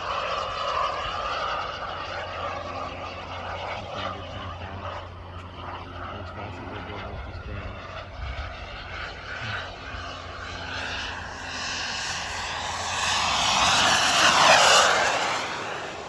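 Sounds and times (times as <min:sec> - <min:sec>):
model jet turbine whine: 0:00.0 - 0:16.0.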